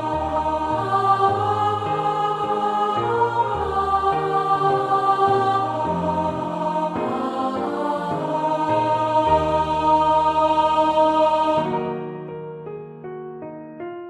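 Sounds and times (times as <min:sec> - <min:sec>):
choir singing a hymn: 0:00.0 - 0:12.1
piano playing: 0:00.0 - 0:14.0.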